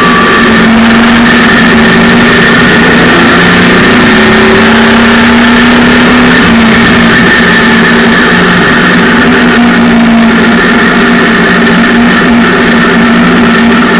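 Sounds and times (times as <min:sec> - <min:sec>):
car engine running loud: 0:00.0 - 0:13.9.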